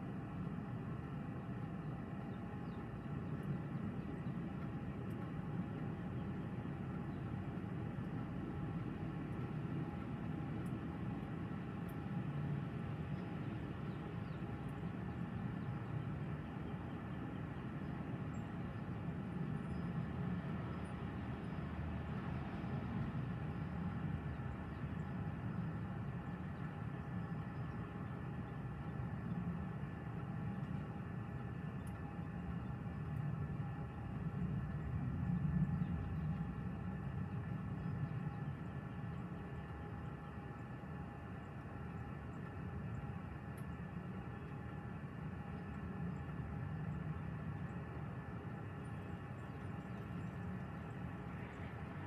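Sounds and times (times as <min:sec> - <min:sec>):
faint multi-tone hum: 0:00.0 - 0:52.0
strong gusty wind: 0:00.2 - 0:52.0.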